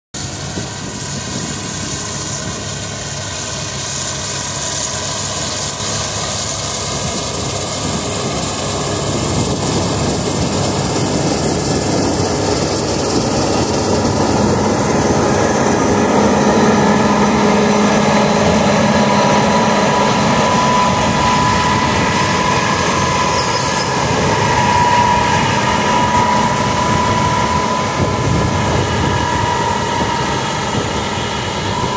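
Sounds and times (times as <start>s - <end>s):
combine harvester drone with whine: 0.2s - 31.9s.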